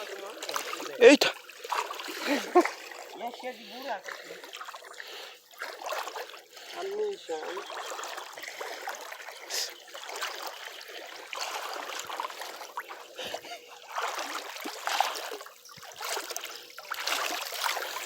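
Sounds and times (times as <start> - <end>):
feet wading and splashing: 0.0 - 18.0
running water: 0.0 - 18.0.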